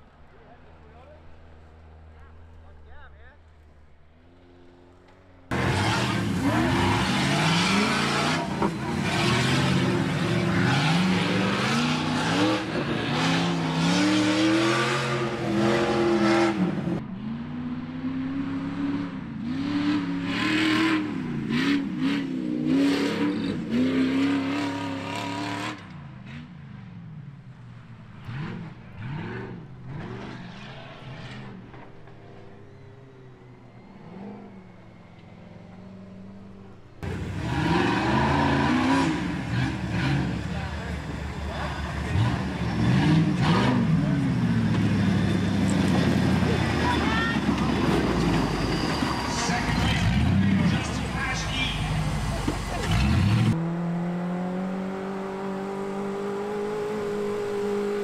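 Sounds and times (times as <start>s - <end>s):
buggy engine revving: 0.0s - 26.9s, 28.0s - 58.0s.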